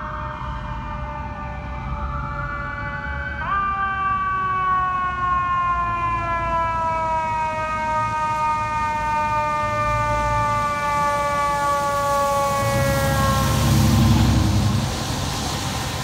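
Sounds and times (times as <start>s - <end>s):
engine and traffic rumble: 0.0s - 16.0s.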